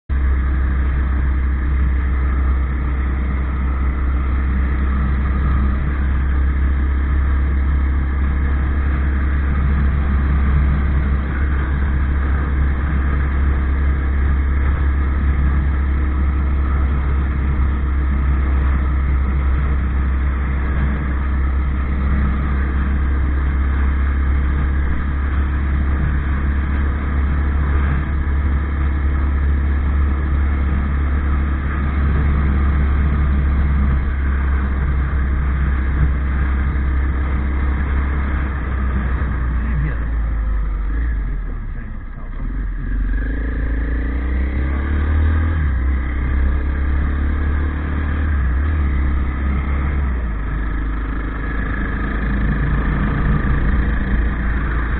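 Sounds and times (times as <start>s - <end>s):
motorcycle engine rumbling: 0.1s - 54.9s.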